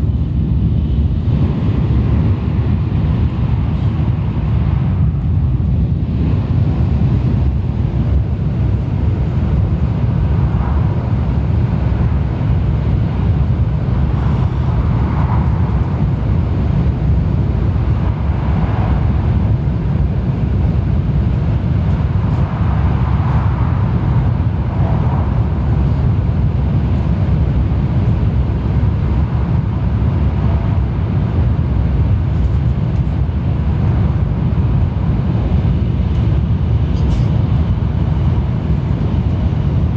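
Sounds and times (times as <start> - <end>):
train interior rumble: 0.0 - 39.9.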